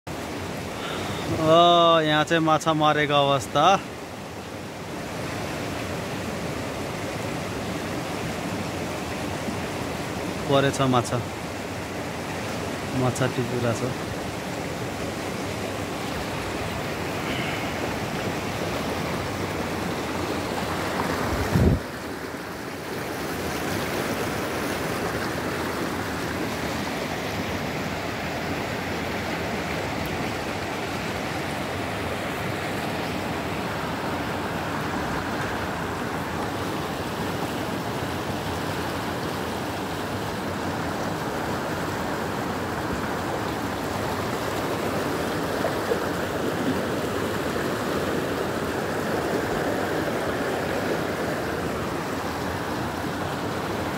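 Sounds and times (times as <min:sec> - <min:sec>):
river rushing over rocks: 0:00.1 - 0:53.9.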